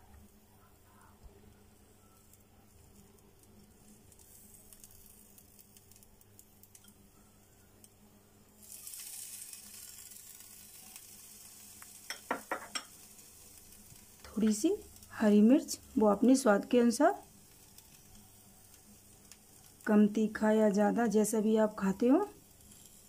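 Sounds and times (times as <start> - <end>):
batter sizzling in pan: 0.8 - 23.0.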